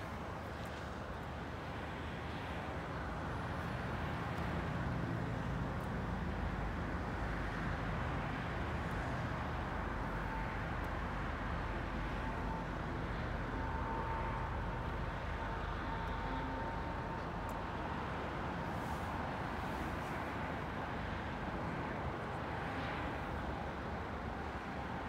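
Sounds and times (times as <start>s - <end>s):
low urban rumble: 0.0s - 25.0s.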